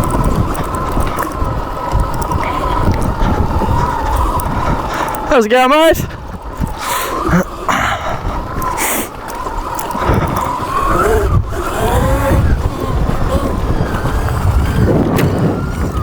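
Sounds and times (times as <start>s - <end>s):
electric motor whining: 0.0s - 16.0s
wind and tyre rumble: 0.0s - 16.0s.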